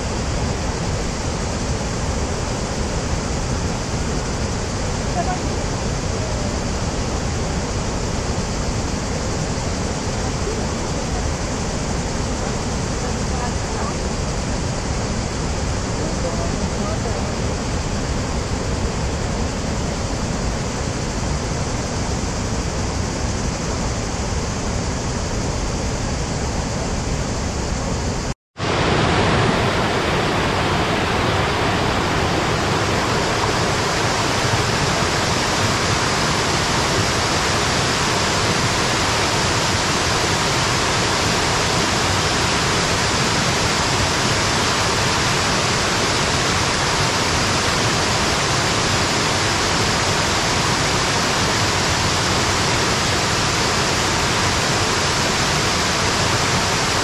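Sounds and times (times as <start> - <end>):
waterfall rushing: 0.0 - 19.8, 28.6 - 57.0.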